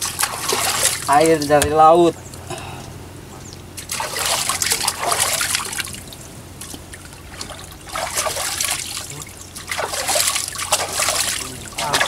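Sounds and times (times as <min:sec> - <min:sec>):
seawater splashing and trickling: 0:00.0 - 0:02.2, 0:03.6 - 0:12.0.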